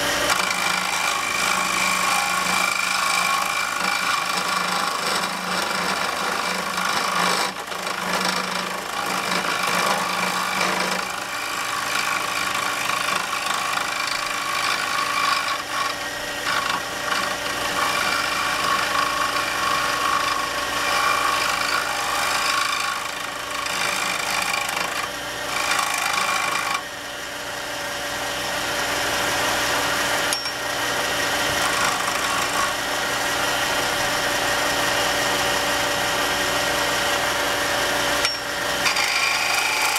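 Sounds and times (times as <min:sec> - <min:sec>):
chisel scraping wood: 0:00.0 - 0:26.9, 0:29.0 - 0:35.4, 0:38.2 - 0:39.9
lathe hum: 0:00.0 - 0:39.9.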